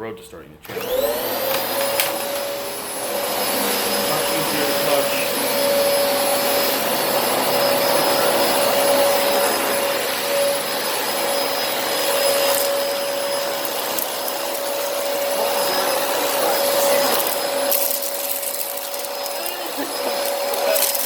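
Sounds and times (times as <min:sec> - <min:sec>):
vacuum cleaner running: 0:00.6 - 0:21.0.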